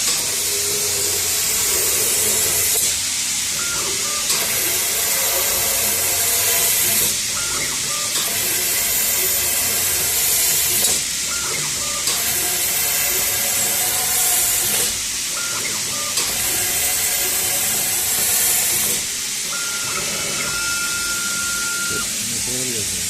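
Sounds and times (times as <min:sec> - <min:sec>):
laser cutting machine running: 0:00.0 - 0:23.0.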